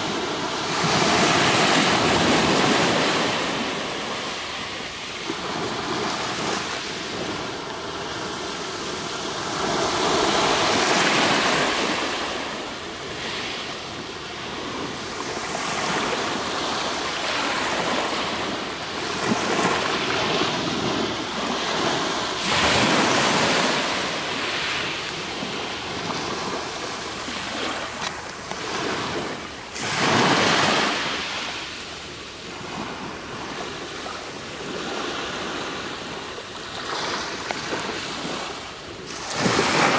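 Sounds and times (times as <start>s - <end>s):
waves washing over pebbles: 0.0s - 31.9s, 36.8s - 39.9s.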